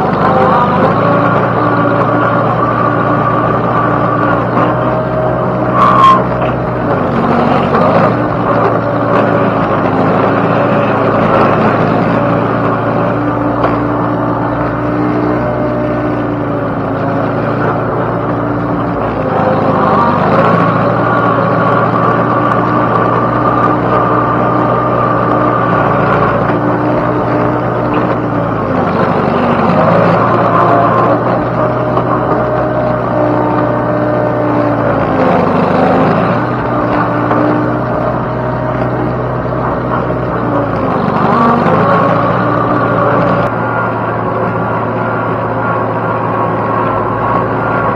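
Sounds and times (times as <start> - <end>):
machine engine running: 0.0 - 47.9.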